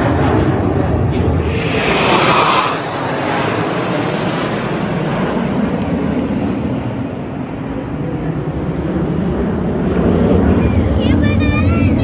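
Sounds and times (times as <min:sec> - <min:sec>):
jet aircraft flying over: 0:00.0 - 0:12.0.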